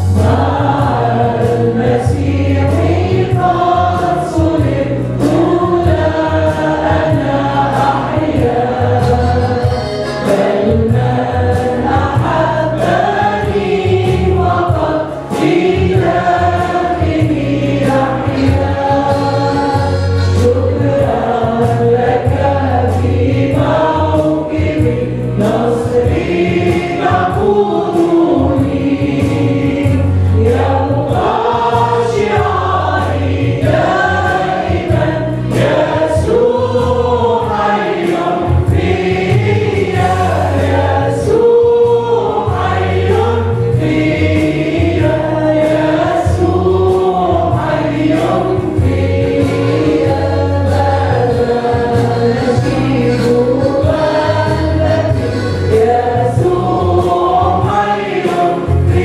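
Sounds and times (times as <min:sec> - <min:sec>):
drums with steady beat: 0:00.0 - 0:59.0
group singing a hymn: 0:00.0 - 0:59.0
keyboard: 0:00.0 - 0:59.0.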